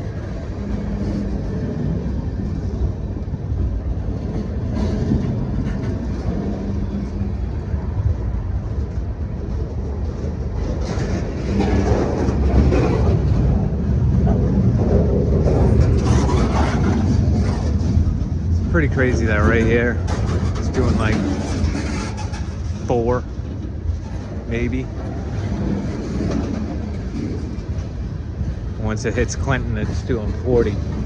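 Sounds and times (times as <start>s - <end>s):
freight train rumbling: 0.0s - 31.0s.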